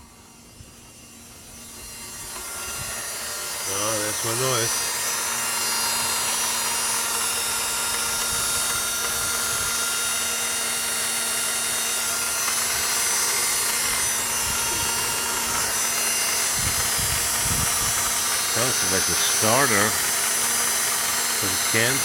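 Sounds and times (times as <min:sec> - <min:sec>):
electric whirring whine: 0:00.0 - 0:22.0.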